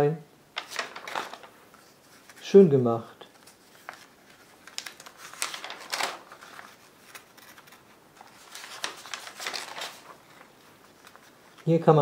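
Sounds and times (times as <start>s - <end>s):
paper rustling: 0.6s - 12.0s.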